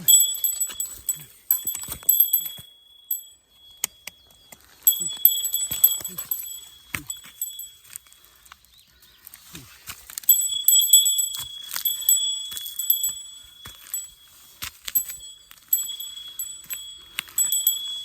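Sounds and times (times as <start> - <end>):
small metal bell jingling: 0.0 - 8.3, 10.2 - 18.0.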